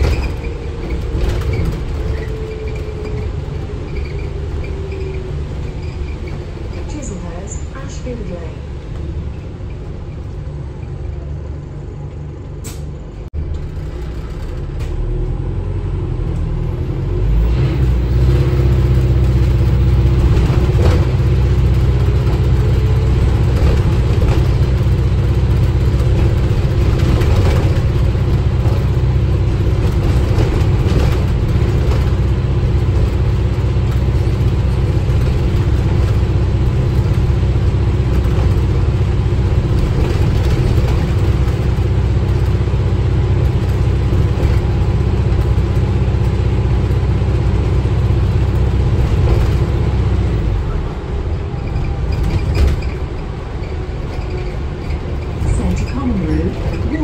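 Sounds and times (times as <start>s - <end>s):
bus drivetrain droning: 0.0s - 57.0s.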